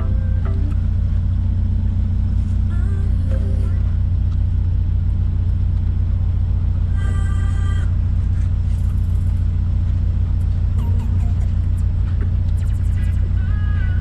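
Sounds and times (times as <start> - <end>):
car engine rumbling while driving: 0.0 - 14.0.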